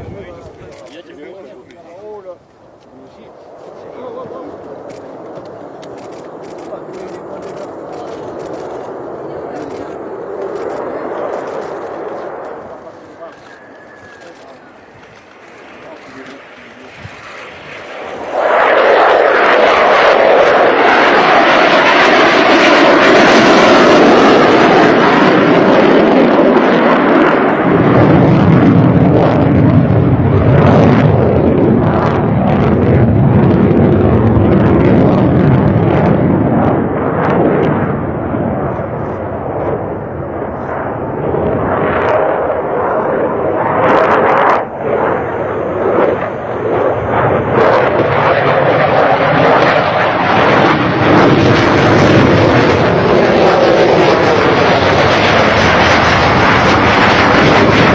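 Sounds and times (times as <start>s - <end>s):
fighter jet engine roar: 0.0s - 57.9s.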